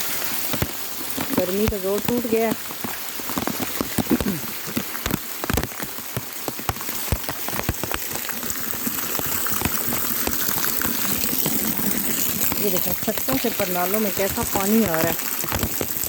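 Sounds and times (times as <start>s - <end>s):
heavy rain falling: 0.0s - 16.0s
raindrops splashing on hard surfaces: 0.0s - 16.0s.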